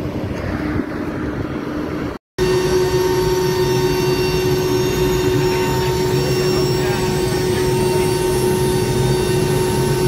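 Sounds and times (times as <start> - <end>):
aircraft engine drone: 0.0 - 10.0
high engine whine: 0.0 - 10.0
low hum: 0.0 - 10.0.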